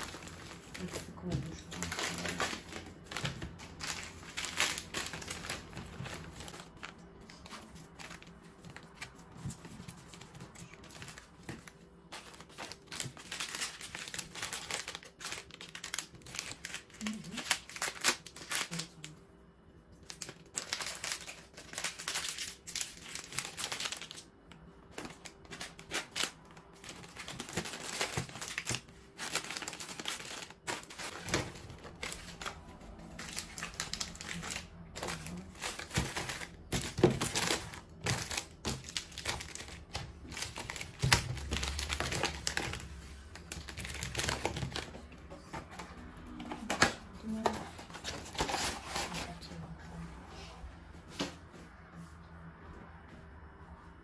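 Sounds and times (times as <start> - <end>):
packages clicking and knocking: 0.0 - 19.1, 20.0 - 49.3
plastic packets crinkling: 0.0 - 19.2, 20.0 - 45.0.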